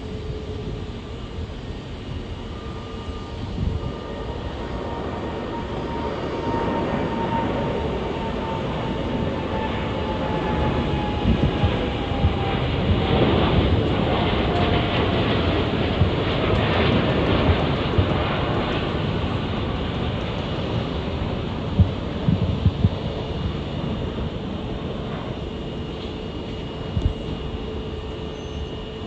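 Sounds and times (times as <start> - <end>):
jet engine whine falling in pitch: 0.0 - 29.0
jet engines at takeoff: 0.0 - 29.0.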